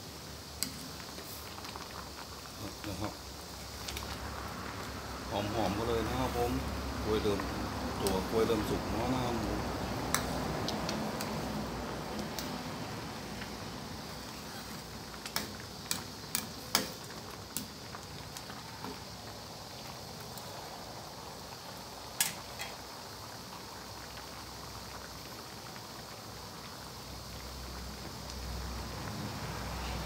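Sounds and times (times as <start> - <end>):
liquid bubbling in a wok: 0.0 - 30.0.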